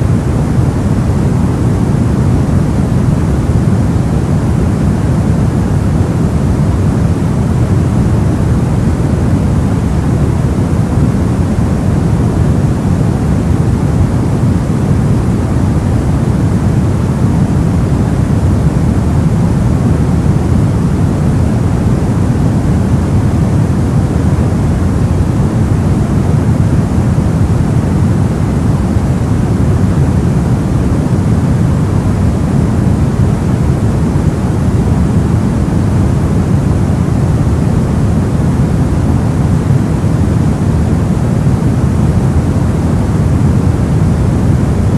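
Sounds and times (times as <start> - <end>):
deep muffled white noise: 0.0 - 44.9.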